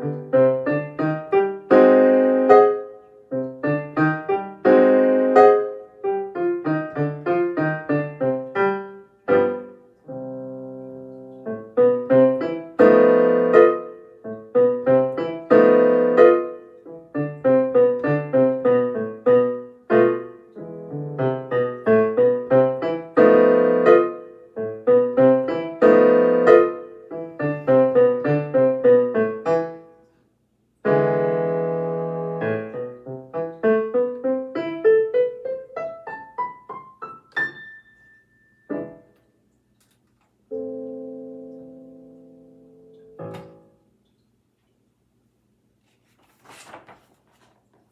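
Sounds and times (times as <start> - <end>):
piano playing minor-key solo: 0.0 - 30.2, 30.8 - 44.0.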